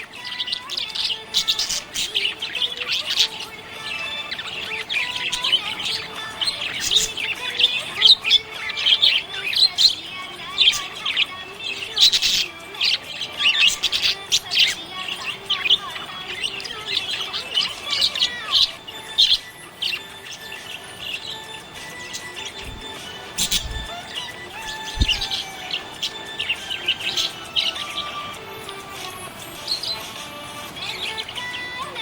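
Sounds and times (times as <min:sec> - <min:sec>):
budgerigar chirping: 0:00.0 - 0:32.0.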